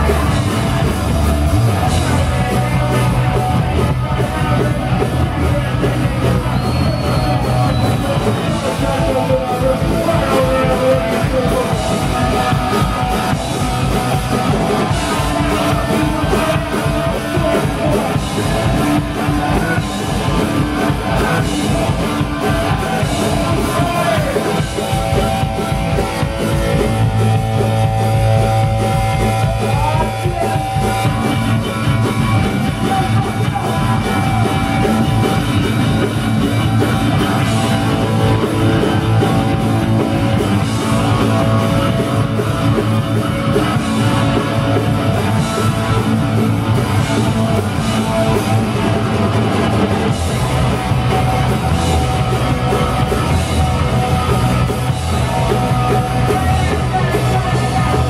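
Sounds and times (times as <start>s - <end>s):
punk rock band playing live: 0.0s - 58.0s.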